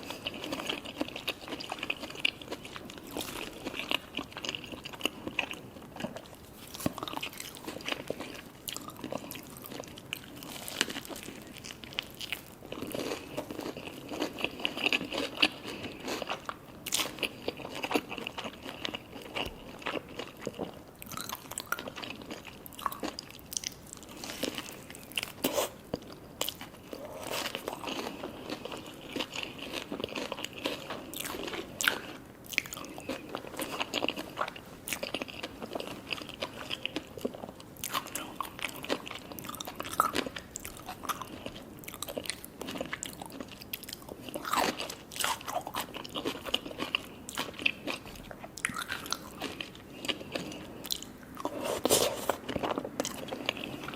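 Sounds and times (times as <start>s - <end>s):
biting and chewing crunchy food: 0.0s - 53.9s.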